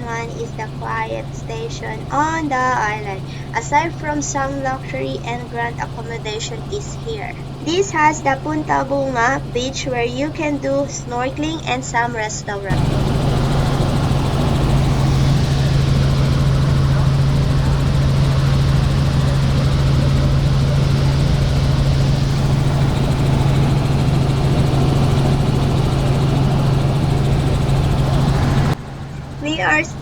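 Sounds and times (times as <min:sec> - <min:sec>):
helicopter rotors and engine drone: 0:00.0 - 0:30.0.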